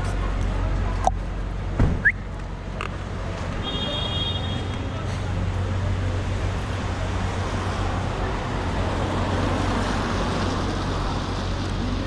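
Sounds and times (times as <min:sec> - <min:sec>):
traffic engine hum: 0:00.0 - 0:12.0
tyre and road noise: 0:00.0 - 0:12.0.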